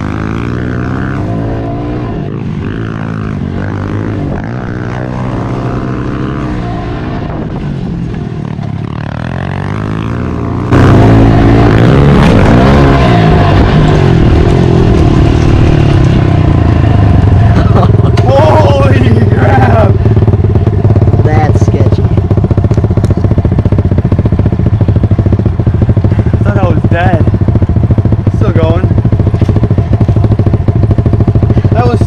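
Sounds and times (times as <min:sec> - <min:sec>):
pit bike engines revving: 0:00.0 - 0:32.0.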